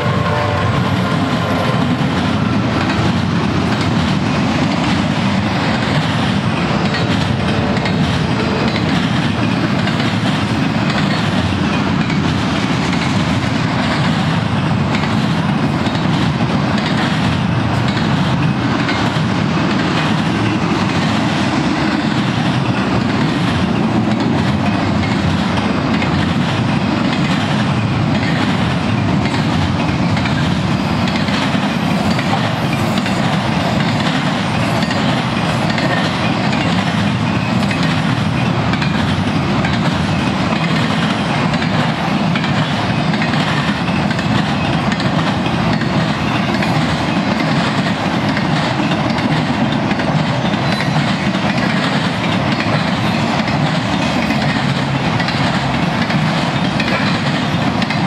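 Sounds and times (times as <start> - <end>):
steel wheels rumbling on rail: 0.0 - 58.0
wheels clacking over rail joints: 0.1 - 58.0.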